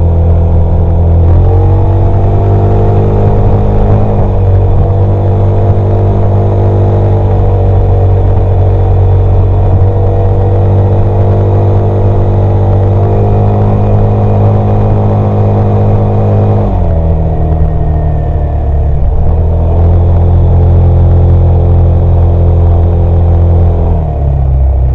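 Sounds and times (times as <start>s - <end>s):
scooter engine running: 0.0s - 24.9s.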